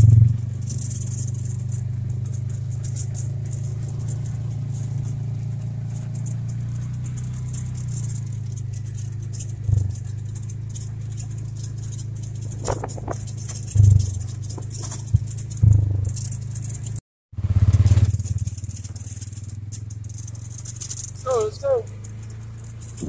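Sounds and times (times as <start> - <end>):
body panels rattling: 0.0 - 17.0, 17.8 - 23.0
vehicle engine running: 0.0 - 23.0.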